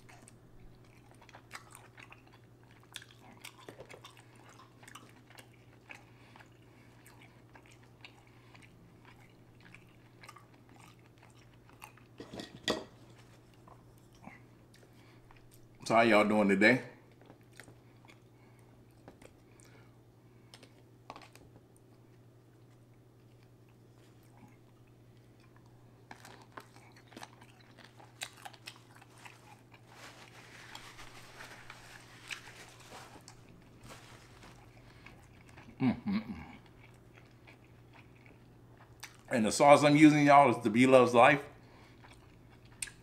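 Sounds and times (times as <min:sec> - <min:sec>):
man chewing food: 0:00.0 - 0:15.8, 0:17.0 - 0:39.3, 0:41.6 - 0:43.0.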